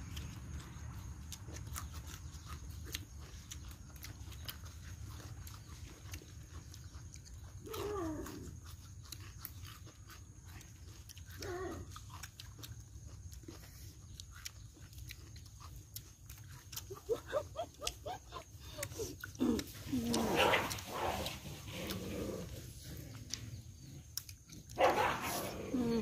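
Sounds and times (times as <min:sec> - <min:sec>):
chewing and lip-smacking: 0:00.0 - 0:26.0.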